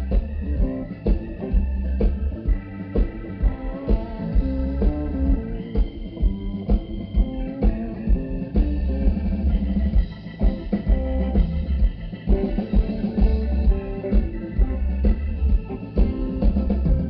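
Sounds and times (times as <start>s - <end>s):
bass guitar: 0.0s - 17.0s
drums: 0.0s - 17.0s
guitar: 0.0s - 17.0s
live band playing: 0.0s - 17.0s.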